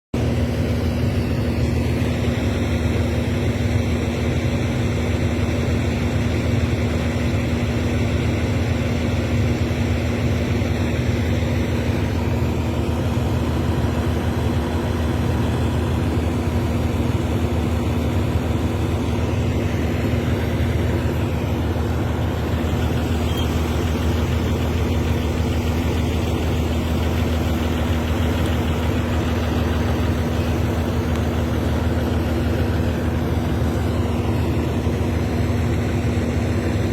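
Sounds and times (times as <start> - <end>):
diesel engine running: 0.1 - 36.9.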